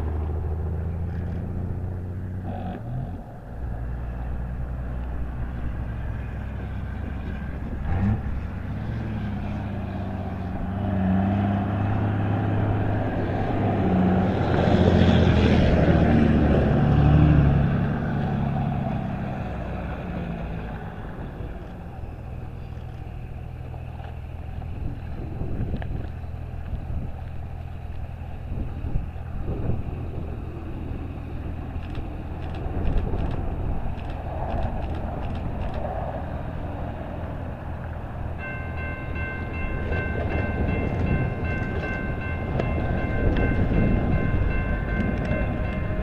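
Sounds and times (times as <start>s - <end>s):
train passing rumble: 0.0s - 46.0s.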